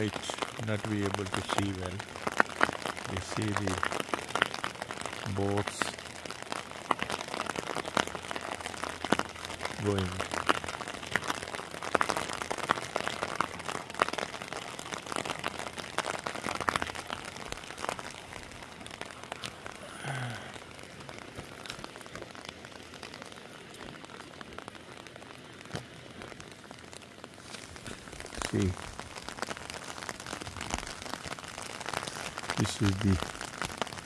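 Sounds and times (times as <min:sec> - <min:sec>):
heavy rain pattering: 0:00.0 - 0:34.0.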